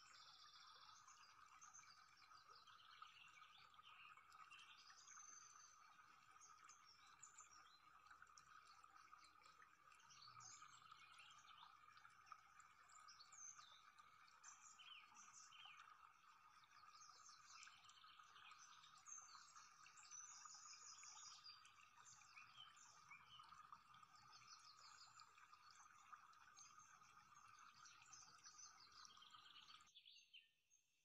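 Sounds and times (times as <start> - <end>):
faint bird chirps and trills: 0.0 - 31.0.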